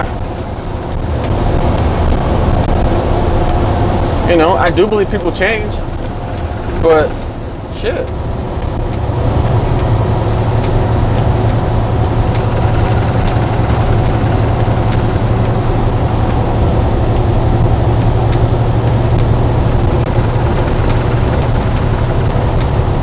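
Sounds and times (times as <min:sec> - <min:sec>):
road and engine noise in truck cab: 0:00.0 - 0:23.0.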